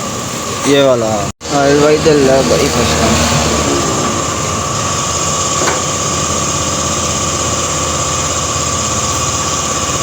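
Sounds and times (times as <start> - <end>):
car engine idling: 0.7 - 10.0.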